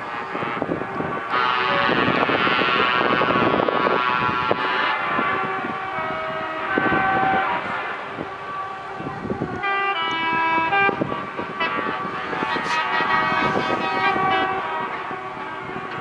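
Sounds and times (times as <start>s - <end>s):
truck air horns: 0.0s - 16.0s
truck engines rumbling: 0.0s - 16.0s.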